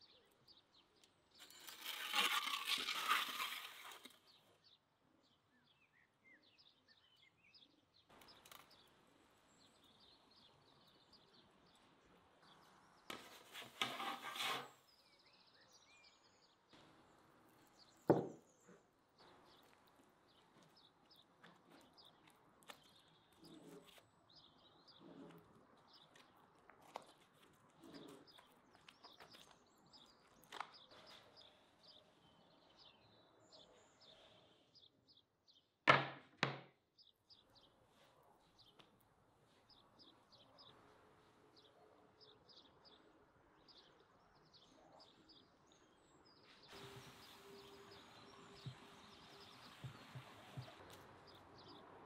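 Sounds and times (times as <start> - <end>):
faint birds chirping: 0.0 - 35.8, 36.8 - 52.0.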